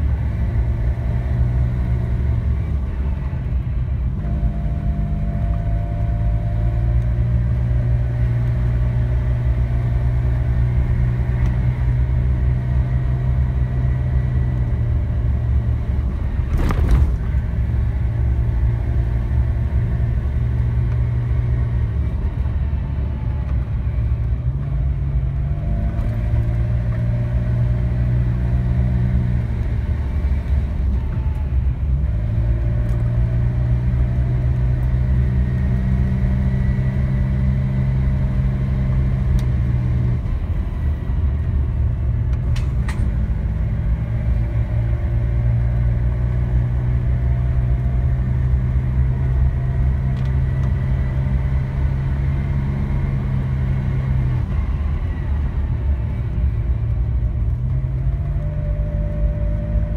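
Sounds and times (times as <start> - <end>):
car engine running: 0.0 - 59.9
road and tyre rumble: 0.0 - 59.9.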